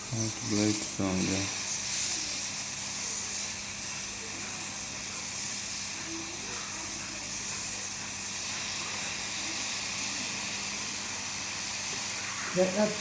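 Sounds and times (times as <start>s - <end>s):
hot-air blower hissing: 0.0s - 13.0s.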